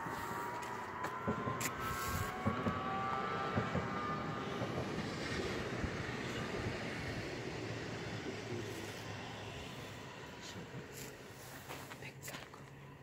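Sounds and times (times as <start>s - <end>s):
train traction motors whining: 0.0s - 13.0s.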